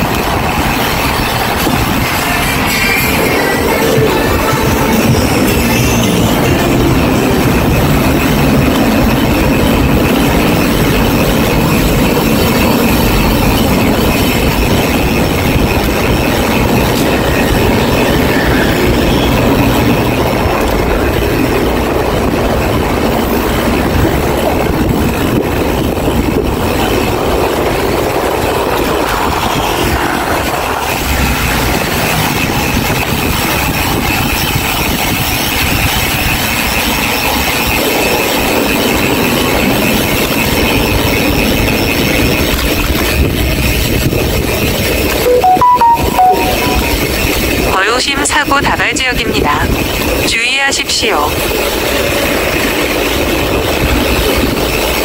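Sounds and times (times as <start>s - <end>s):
wind buffeting microphone: 0.0s - 45.2s, 51.3s - 55.0s
street traffic passing: 0.0s - 55.0s.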